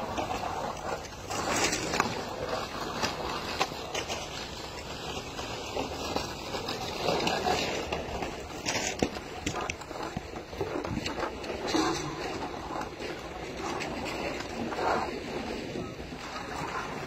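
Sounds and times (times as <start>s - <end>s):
snow shovels scraping: 0.0s - 17.0s.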